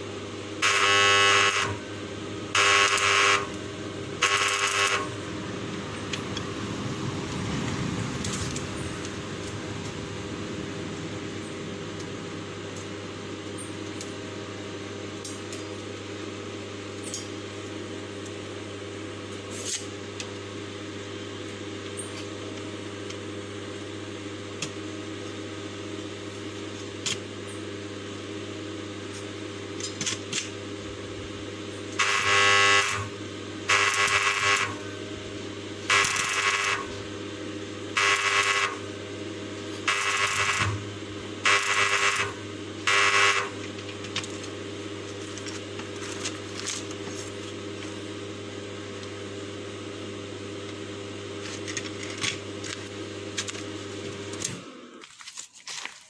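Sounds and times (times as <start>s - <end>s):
steady machine hum: 0.0s - 55.4s.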